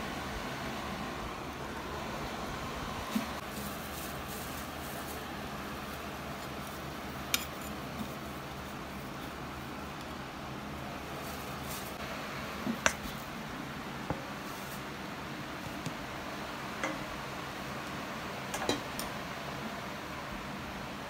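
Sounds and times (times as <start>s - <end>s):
fan-like room noise: 0.0s - 21.0s.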